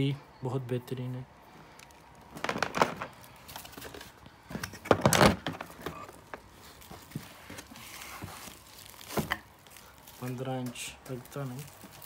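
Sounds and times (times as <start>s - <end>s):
cable rustling against cardboard box: 1.7s - 12.0s.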